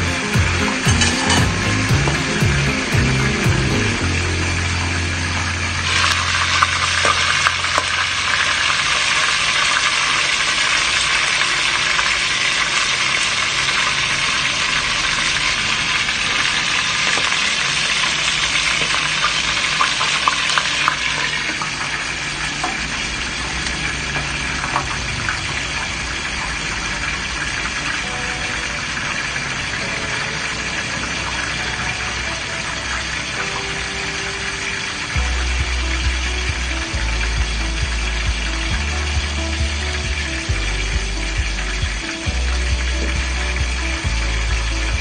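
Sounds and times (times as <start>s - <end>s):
chicken sizzling in a pot: 3.6s - 45.0s.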